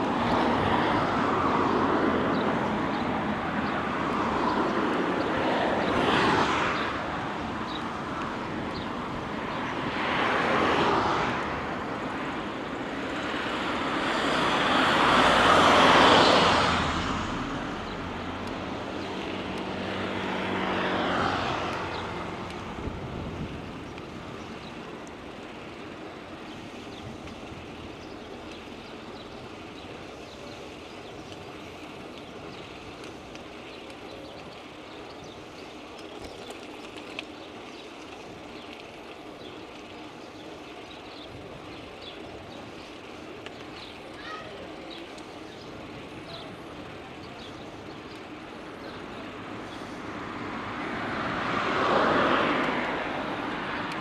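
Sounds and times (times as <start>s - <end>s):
low rush of ride and wind noise: 0.0s - 54.0s
vehicles passing close by: 0.0s - 54.0s.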